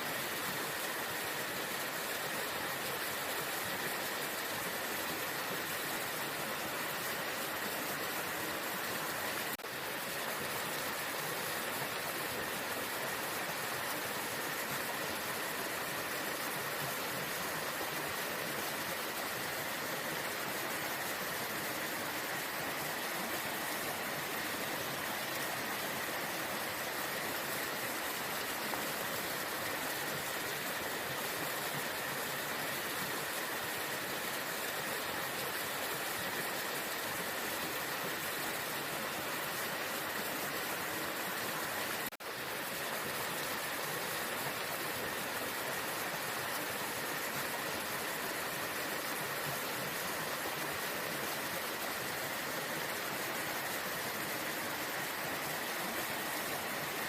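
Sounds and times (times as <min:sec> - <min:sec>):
waterfall roaring: 0:01.0 - 0:40.2, 0:43.2 - 0:57.0.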